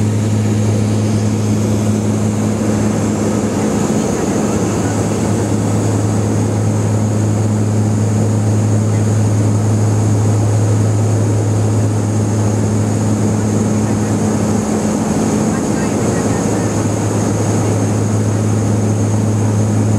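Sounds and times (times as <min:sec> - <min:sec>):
turboprop cabin drone: 0:00.0 - 0:19.9.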